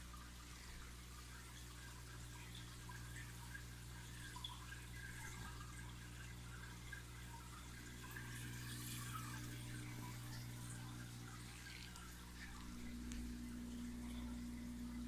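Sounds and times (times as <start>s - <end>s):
aquarium bubbles and trickling water: 0.0s - 15.0s
pump humming: 0.0s - 15.0s.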